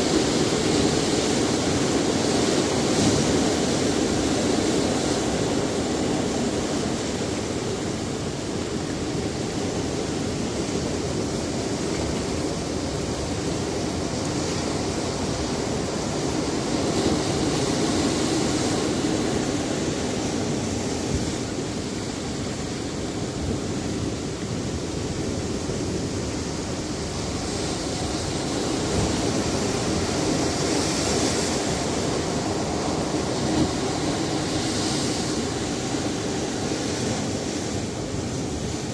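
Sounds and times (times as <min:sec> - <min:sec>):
waves breaking on rocks: 0:00.0 - 0:38.9.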